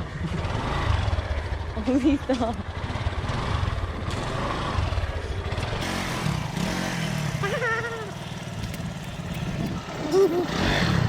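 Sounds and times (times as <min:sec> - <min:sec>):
motorcycle engine running: 0:00.0 - 0:11.0
street traffic: 0:00.0 - 0:11.0.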